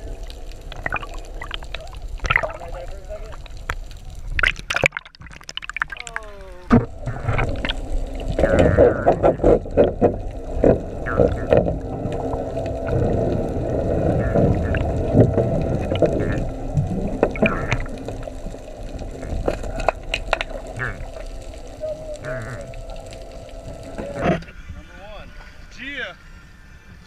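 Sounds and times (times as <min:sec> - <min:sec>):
steady underwater hum: 0:00.0 - 0:27.0
underwater knocks and clicks: 0:00.6 - 0:24.5.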